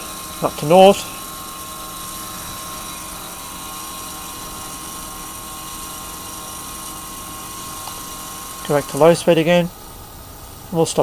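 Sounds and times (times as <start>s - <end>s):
electric motor and gears running: 0.0s - 11.0s.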